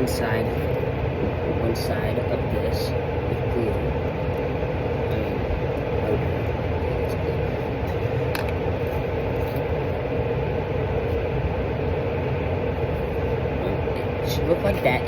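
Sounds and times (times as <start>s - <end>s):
steady droning noise: 0.0s - 15.0s.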